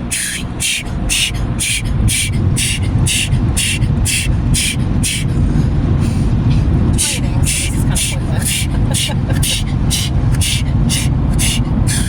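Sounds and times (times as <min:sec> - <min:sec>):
rhythmic hiss: 0:00.0 - 0:05.4, 0:06.0 - 0:12.0
car wash dryer blowers rumbling: 0:00.0 - 0:12.0.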